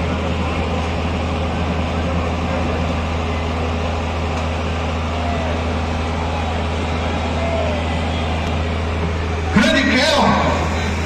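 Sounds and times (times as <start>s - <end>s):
constant hum: 0.0s - 11.0s
steady low rumble: 0.0s - 11.0s.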